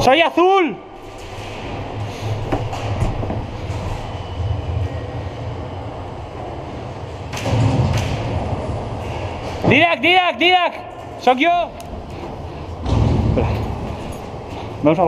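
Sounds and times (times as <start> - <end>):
low rumbling movement noise: 0.8 - 15.0.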